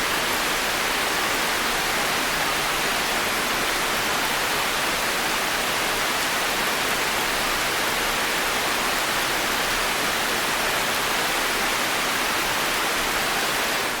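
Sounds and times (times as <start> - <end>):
heavy rain on foliage: 0.0 - 14.0.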